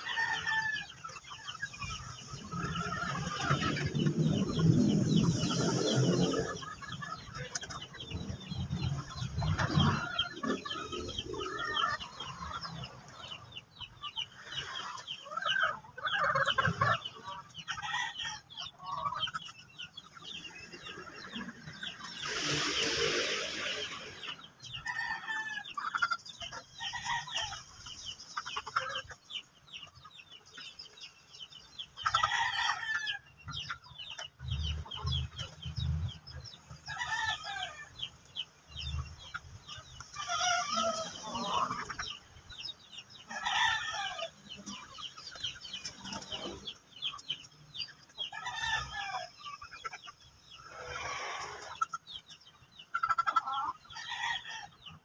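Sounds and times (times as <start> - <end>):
roosters crowing: 0.0 - 13.2, 14.6 - 19.4, 20.3 - 27.8, 32.0 - 33.9, 34.5 - 42.2, 42.9 - 46.8, 48.2 - 52.0, 52.9 - 55.0
chickens clucking: 0.0 - 55.0.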